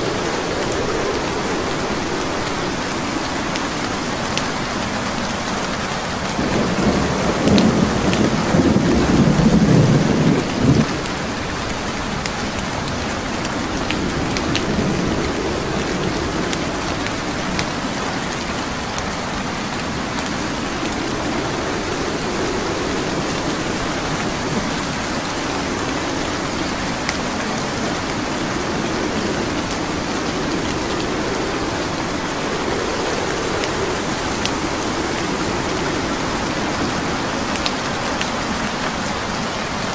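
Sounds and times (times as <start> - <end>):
burning logs crackling: 0.0 - 39.9
steady rain: 0.0 - 39.9
thunder rumbling: 0.0 - 39.9.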